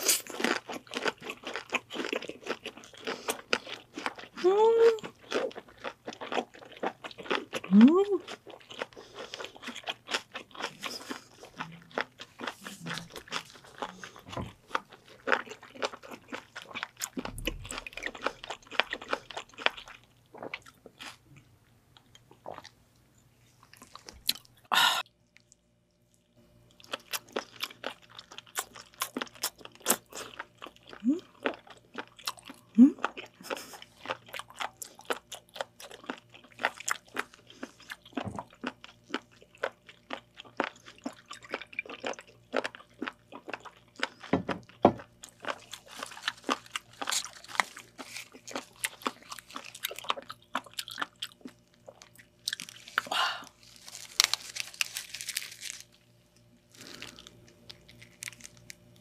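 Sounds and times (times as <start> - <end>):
crisp wet chewing: 0.0 - 22.8, 25.3 - 59.0.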